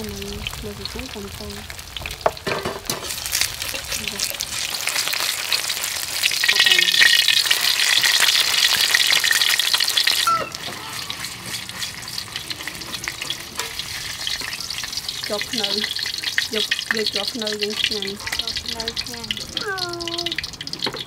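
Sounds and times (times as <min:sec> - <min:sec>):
egg sizzling in hot oil: 0:00.0 - 0:21.0
metal spatula in pan: 0:02.0 - 0:21.0.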